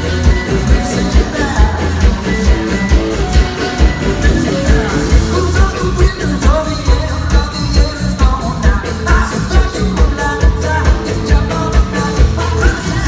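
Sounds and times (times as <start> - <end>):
heavy drum beat: 0.0 - 13.0
live rock band playing: 0.0 - 13.0
person singing: 0.0 - 13.0.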